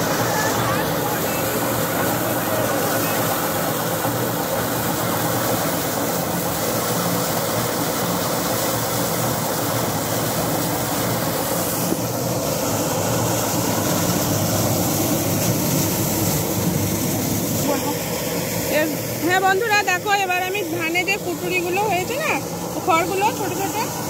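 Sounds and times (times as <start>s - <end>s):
threshing machine running: 0.0s - 24.0s.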